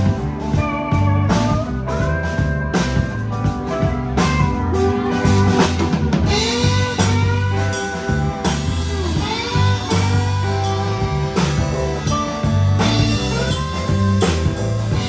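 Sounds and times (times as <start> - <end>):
drum kit: 0.0 - 15.0
electric bass: 0.0 - 15.0
electric guitars: 0.0 - 15.0.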